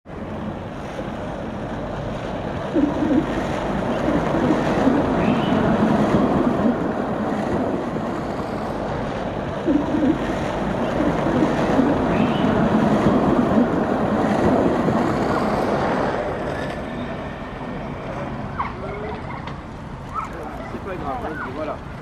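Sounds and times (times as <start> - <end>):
tram wheels rolling on rail: 0.1 - 22.0.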